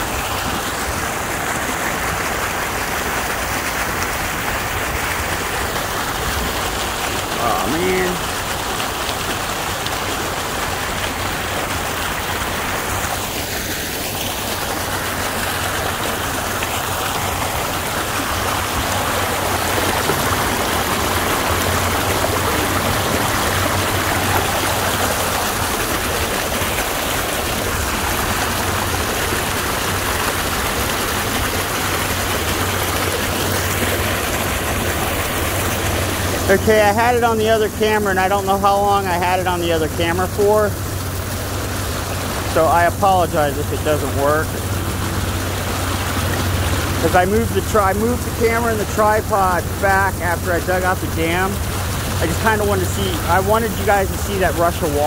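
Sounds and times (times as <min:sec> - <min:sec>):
water gushing over rocks: 0:00.0 - 0:55.0
water rushing through drain pipe: 0:00.0 - 0:55.0.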